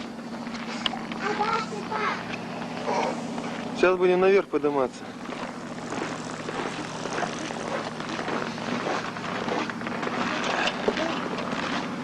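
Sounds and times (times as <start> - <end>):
irregular crunching ticks: 0.0 - 3.8, 5.2 - 12.0
engine drone: 0.0 - 12.0.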